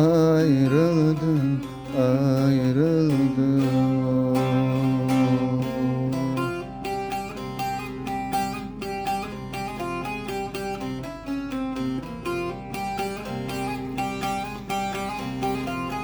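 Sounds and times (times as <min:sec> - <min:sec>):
long-necked lute melody: 0:00.0 - 0:16.0.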